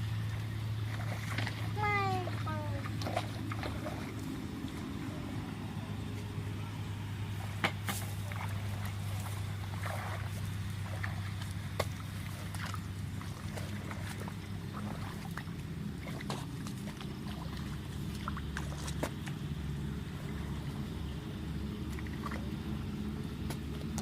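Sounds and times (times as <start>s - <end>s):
small engine humming: 0.0s - 24.0s.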